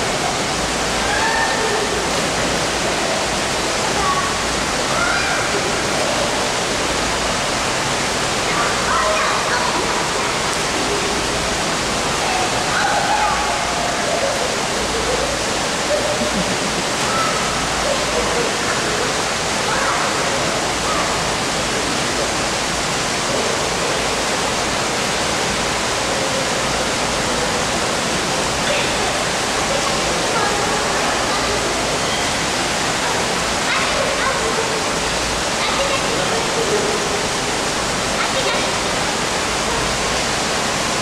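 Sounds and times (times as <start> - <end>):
water rushing and splashing: 0.0 - 41.0.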